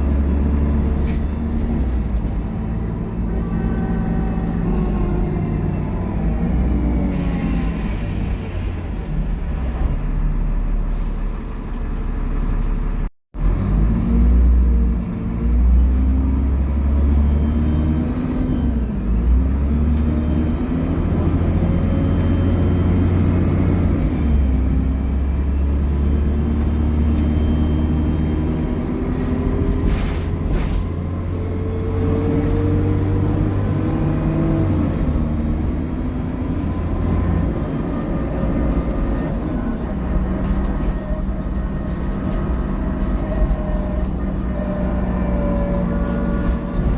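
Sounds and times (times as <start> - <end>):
bus engine pulling through gears: 0.0 - 46.9.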